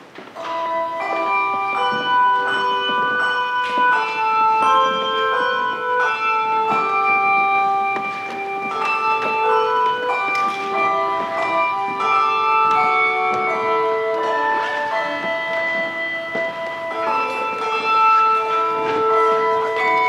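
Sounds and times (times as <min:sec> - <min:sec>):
handbell choir playing: 0:00.4 - 0:20.0.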